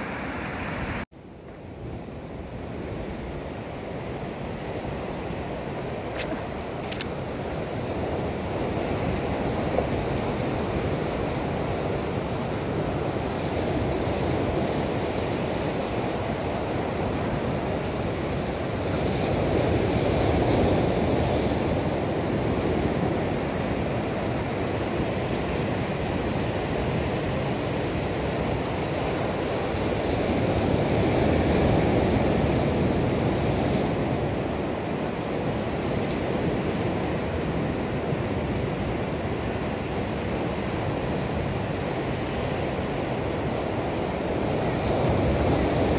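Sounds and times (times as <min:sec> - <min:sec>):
ocean surf breaking on rocks: 0:01.8 - 0:45.9.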